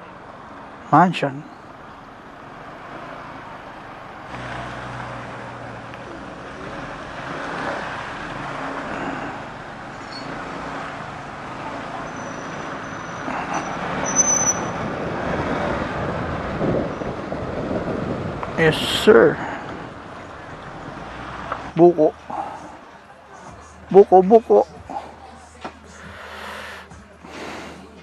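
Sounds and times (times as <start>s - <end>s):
road and wind noise: 0.0s - 28.0s.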